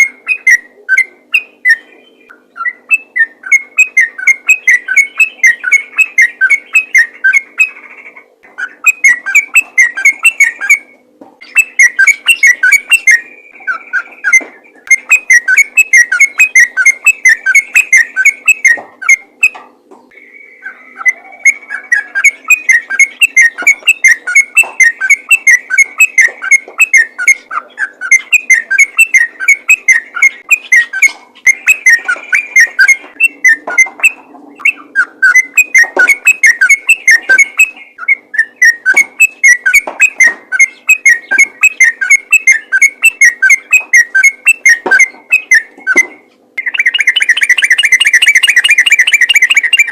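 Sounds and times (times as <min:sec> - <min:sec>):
bird singing chattering whistles: 0:00.0 - 0:49.9.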